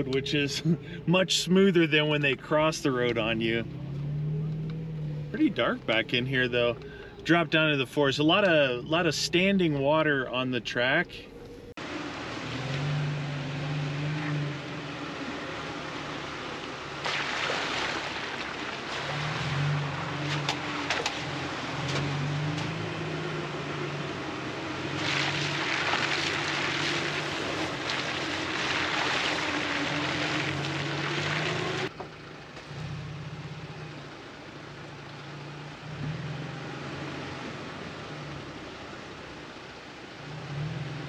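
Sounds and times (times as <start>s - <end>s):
off-road vehicle engine: 0.0s - 41.0s
rushing tyre noise: 0.0s - 41.0s.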